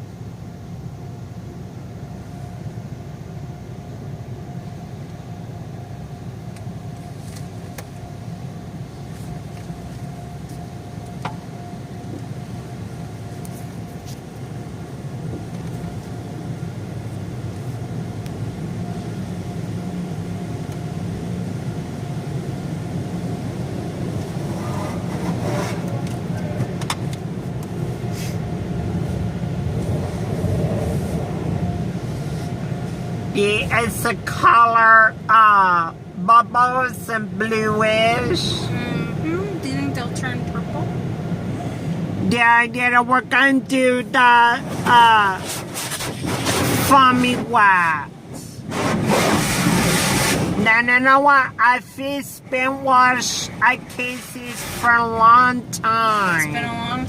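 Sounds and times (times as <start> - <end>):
car wash machinery rumble: 0.0 - 57.0.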